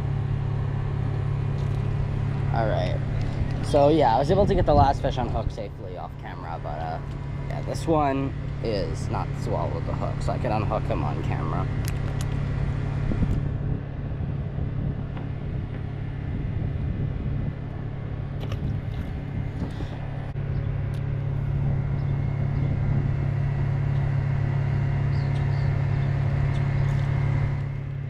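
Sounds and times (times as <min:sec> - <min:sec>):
low rumble with faint hum: 0:00.0 - 0:28.0.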